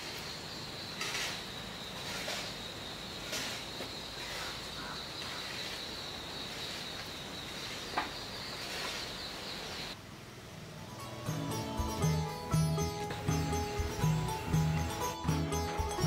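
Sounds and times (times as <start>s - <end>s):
insects droning: 0.0s - 16.0s
rural background noise: 0.0s - 16.0s.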